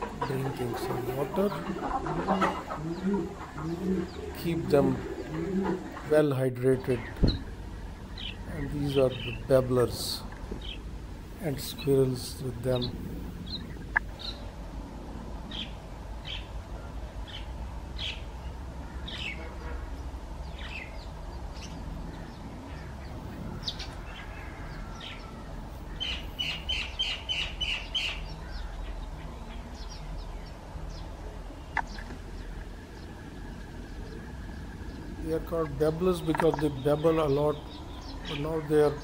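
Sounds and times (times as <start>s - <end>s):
birds calling: 0.0s - 39.0s
steady low rumble: 0.0s - 39.0s.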